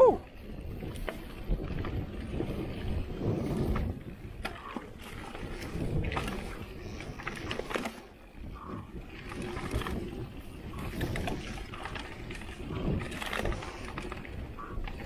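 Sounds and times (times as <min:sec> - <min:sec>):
wind on microphone: 0:00.0 - 0:15.0
tyres rolling over leaves and dirt: 0:00.3 - 0:15.0
bike clicks and knocks: 0:00.8 - 0:15.0.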